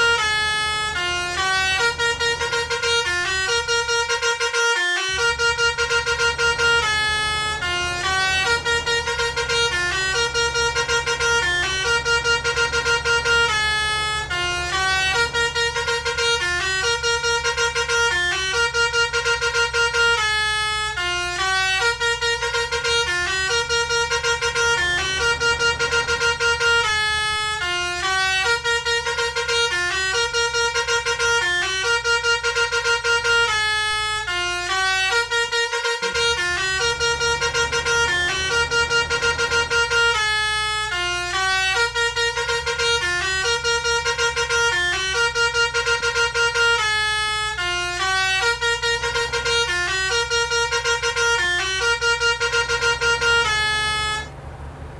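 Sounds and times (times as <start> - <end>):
multi-tone horn playing a tune: 0.0 - 54.3.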